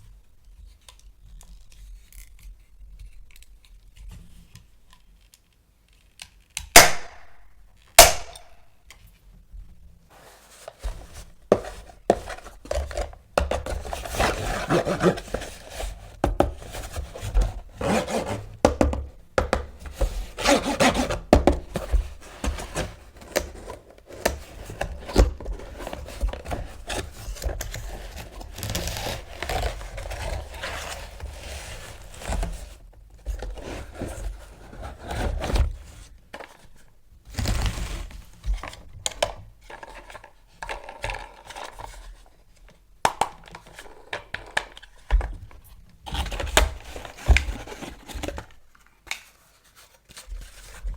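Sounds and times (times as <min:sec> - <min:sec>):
hands handling toy parts and packaging: 0:10.1 - 0:50.9.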